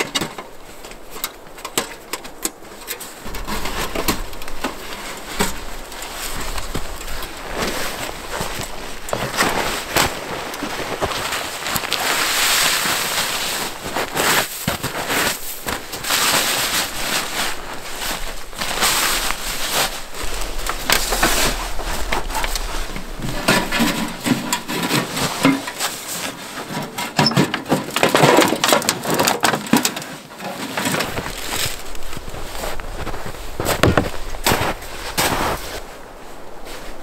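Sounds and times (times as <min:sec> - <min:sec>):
snow shovel scraping snow: 0:03.0 - 0:27.1, 0:30.6 - 0:37.0.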